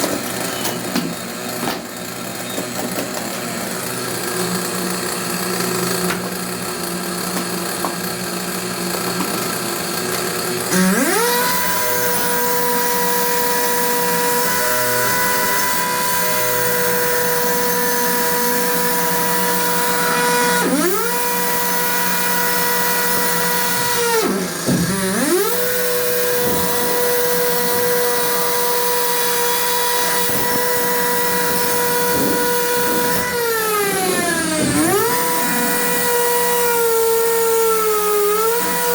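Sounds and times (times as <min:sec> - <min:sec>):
power tool motor whining: 0:00.0 - 0:38.9.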